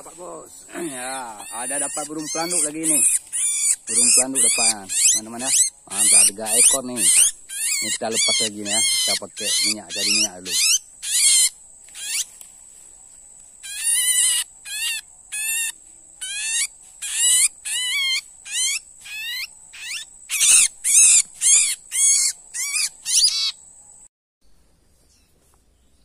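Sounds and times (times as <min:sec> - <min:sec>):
bird squawking harshly: 0:00.7 - 0:12.3, 0:13.6 - 0:23.6.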